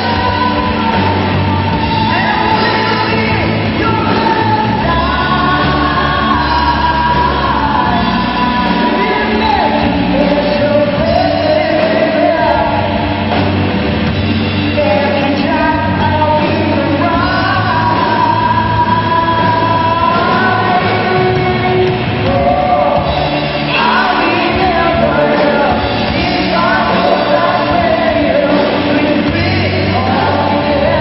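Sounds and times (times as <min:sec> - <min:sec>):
person singing: 0:00.0 - 0:13.5, 0:14.6 - 0:31.0
bass guitar: 0:00.0 - 0:31.0
drums: 0:00.0 - 0:31.0
electric guitars: 0:00.0 - 0:31.0.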